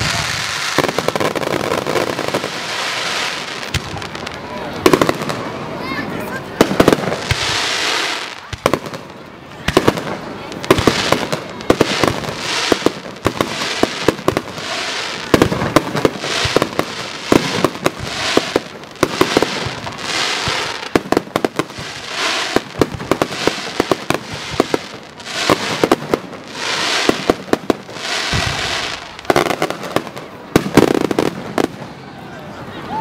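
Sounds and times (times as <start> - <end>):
fireworks hissing: 0.0 - 31.8
fireworks bangs and crackling: 0.0 - 32.6.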